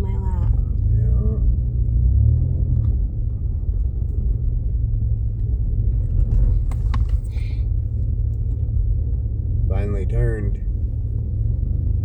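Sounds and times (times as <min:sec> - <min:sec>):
engine and road noise in car cabin: 0:00.0 - 0:12.0.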